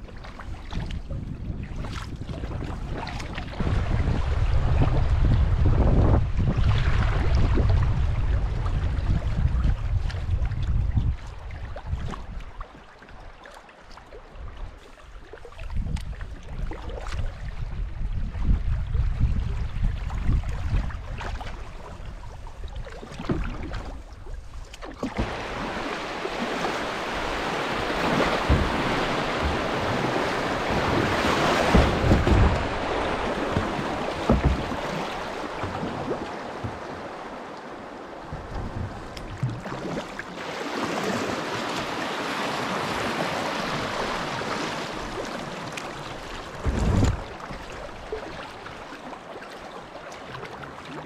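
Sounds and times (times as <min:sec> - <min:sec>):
wind rumble on microphone: 0:00.0 - 0:12.8, 0:14.3 - 0:40.2, 0:42.5 - 0:48.8
paddle strokes splashing: 0:00.0 - 0:18.5, 0:19.8 - 0:51.0
water rushing in shallow river: 0:00.0 - 0:51.0.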